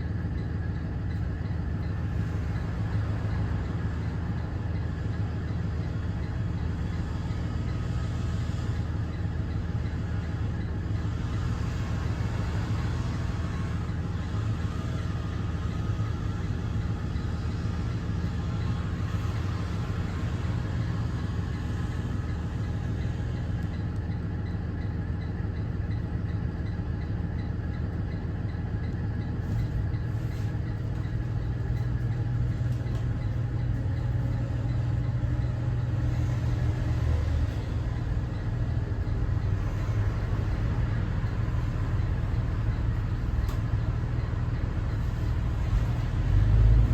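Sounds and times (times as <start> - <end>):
diesel bus engine running: 0.0 - 46.9.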